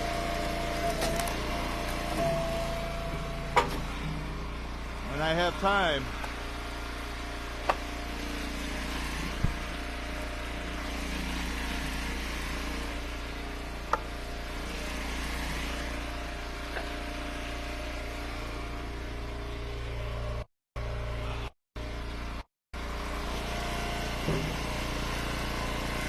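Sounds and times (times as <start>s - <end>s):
log splitter engine running: 0.0s - 26.0s.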